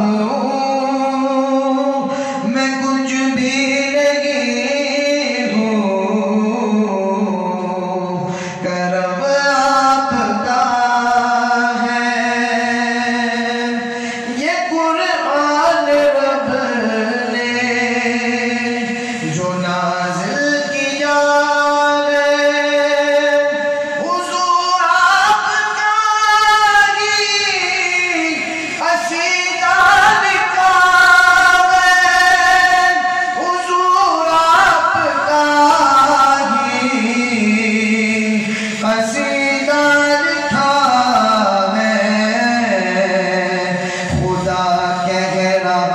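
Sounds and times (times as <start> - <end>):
man singing into microphone: 0.0 - 45.9.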